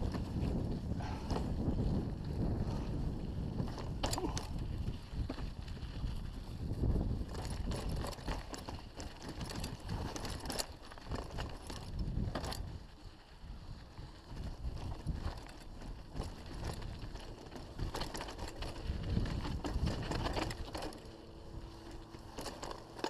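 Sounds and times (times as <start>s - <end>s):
wind noise on microphone: 0.0s - 22.8s
bike clicks and rattles: 0.0s - 23.0s
bike tyre noise on dirt: 0.0s - 23.0s.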